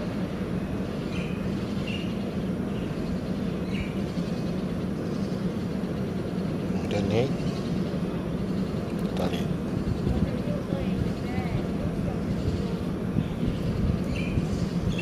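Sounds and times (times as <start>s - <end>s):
low outdoor drone: 0.0s - 15.0s.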